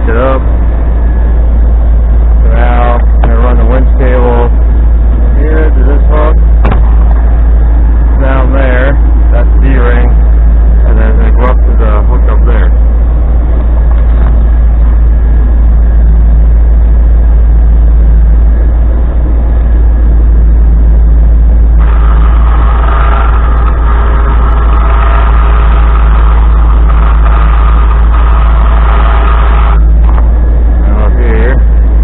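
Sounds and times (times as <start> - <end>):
engine idling: 0.0 - 32.0
high multi-tone whine: 0.0 - 32.0.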